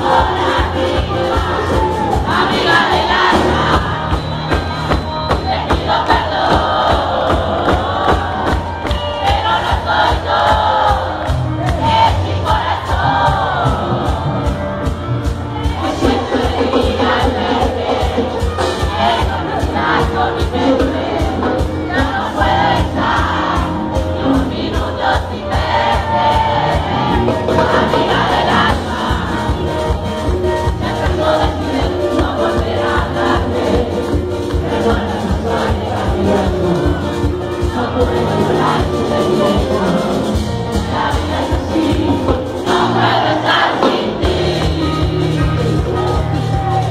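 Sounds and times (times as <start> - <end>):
crowd singing along: 0.0 - 46.9
lead vocal singing: 0.0 - 46.9
live band playing: 0.0 - 46.9
steady drum beat: 0.0 - 46.9.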